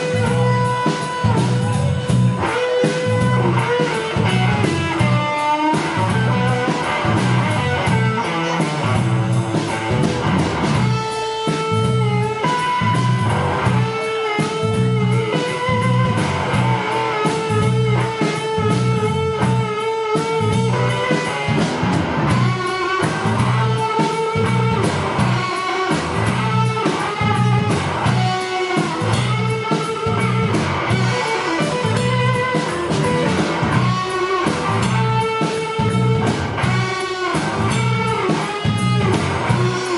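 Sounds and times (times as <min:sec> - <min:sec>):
blues-rock band playing: 0:00.0 - 0:39.9
electric guitar: 0:00.0 - 0:39.9.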